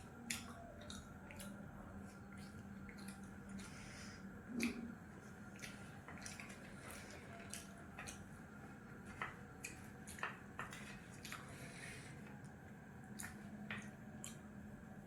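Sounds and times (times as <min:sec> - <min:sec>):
low steady hum: 0:00.0 - 0:15.0
person chewing and mouth-smacking: 0:00.1 - 0:03.9, 0:04.5 - 0:14.5.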